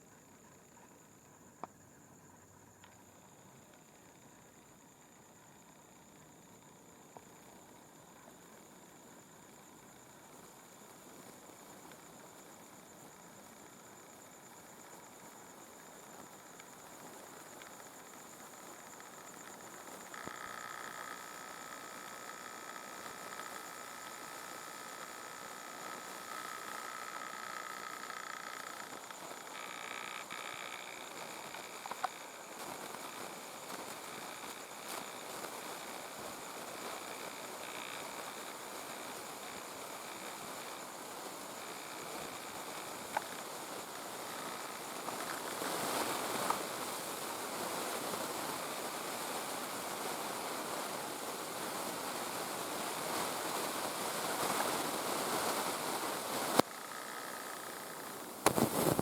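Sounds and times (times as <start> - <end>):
hiss: 10.2 - 59.0.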